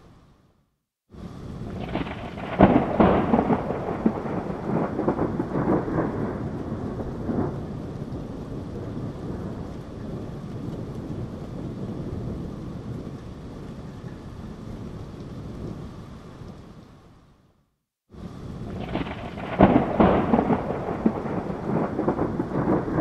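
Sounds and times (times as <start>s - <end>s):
thunderclap rumbling: 1.1s - 16.9s, 18.1s - 23.0s
steady rain: 1.1s - 23.0s.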